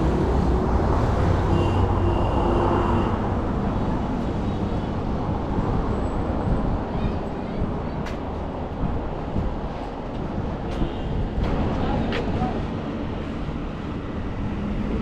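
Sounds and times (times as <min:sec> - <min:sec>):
traffic engine rumble and tyre noise: 0:00.0 - 0:15.0.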